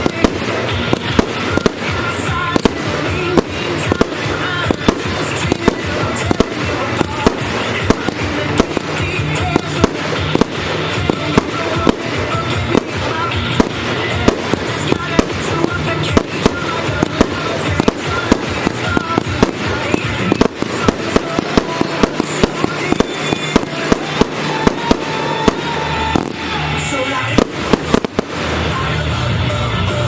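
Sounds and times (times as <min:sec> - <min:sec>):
fireworks bangs and crackles: 0:00.0 - 0:30.0
music: 0:00.0 - 0:30.0.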